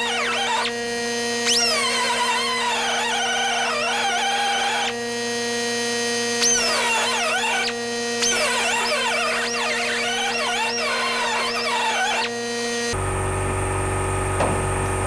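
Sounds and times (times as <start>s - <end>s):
drill bit squealing on steel: 0.0s - 13.0s
drill motor humming: 0.0s - 15.0s.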